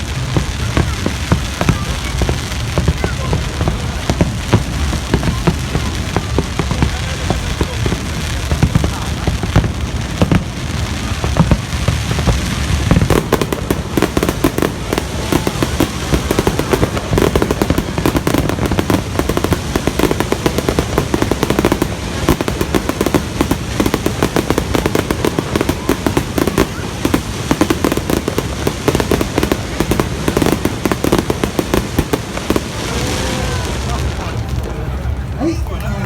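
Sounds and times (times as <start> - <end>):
fireworks crackling pops: 0.0 - 36.0.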